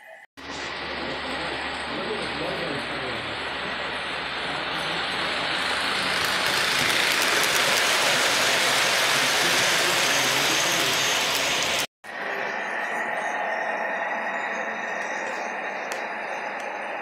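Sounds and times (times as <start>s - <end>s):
model train running on track: 0.4s - 17.0s.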